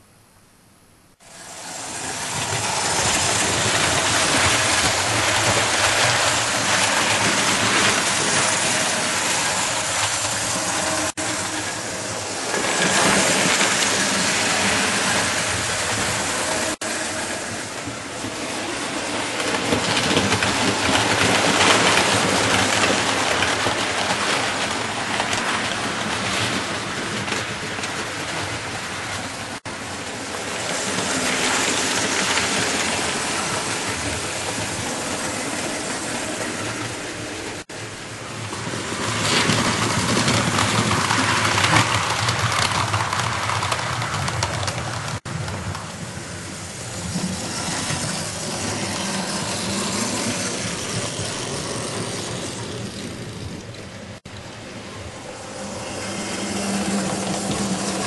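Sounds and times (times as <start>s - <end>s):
model train wheels rattling on rails: 1.4s - 58.0s.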